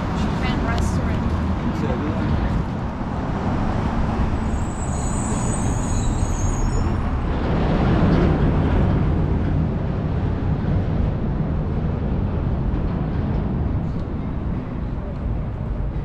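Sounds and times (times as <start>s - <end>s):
low rumble of traffic: 0.0s - 16.0s.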